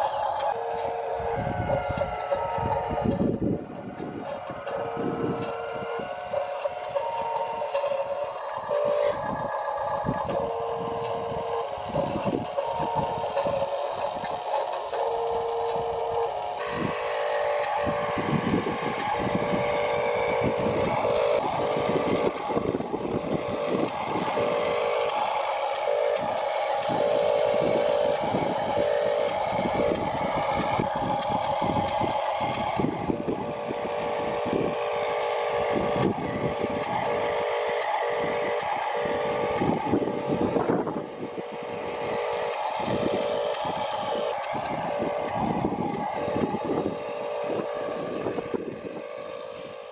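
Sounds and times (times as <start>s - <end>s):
toy electric motors whining: 0.0s - 49.9s.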